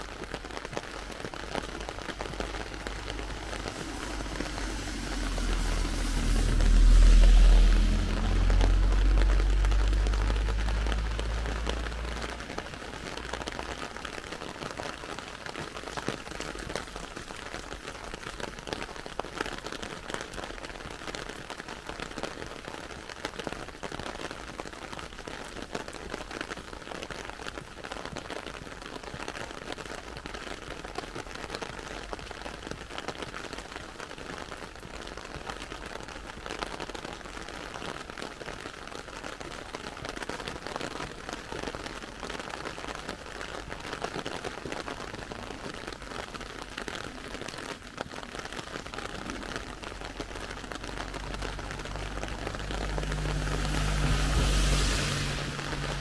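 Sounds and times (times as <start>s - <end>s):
heavy rain on pavement: 0.0s - 56.0s.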